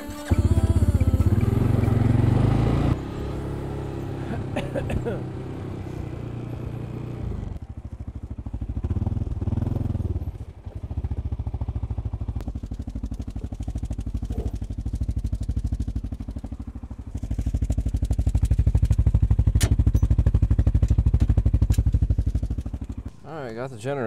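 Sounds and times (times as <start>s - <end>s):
quad bike engine idling: 0.0s - 24.0s
loud steady engine note: 0.1s - 23.4s.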